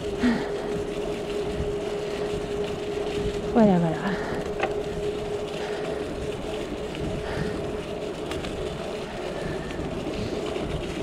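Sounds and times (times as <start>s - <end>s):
bicycle clicks and rattles: 0.0s - 11.0s
wind and tyre rumble: 0.0s - 11.0s.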